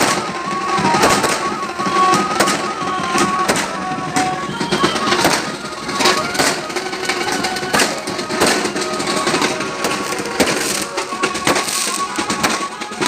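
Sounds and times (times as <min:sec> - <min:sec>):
firecrackers cracking and popping: 0:00.0 - 0:13.0
music playing: 0:00.0 - 0:13.0.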